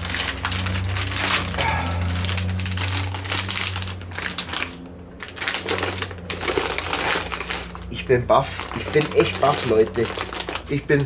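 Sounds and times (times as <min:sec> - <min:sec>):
low hum: 0:00.0 - 0:09.0
plastic bag crinkling: 0:00.0 - 0:11.0.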